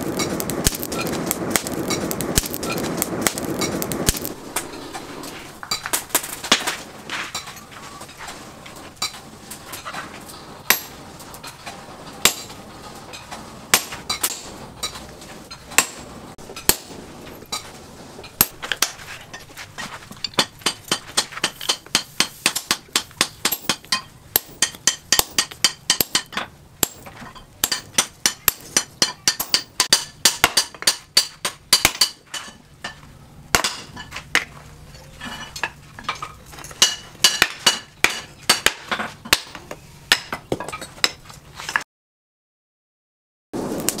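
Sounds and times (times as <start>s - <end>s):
hammer striking hot steel on anvil: 0.0s - 7.8s, 8.9s - 19.5s, 20.2s - 34.5s, 35.2s - 41.2s.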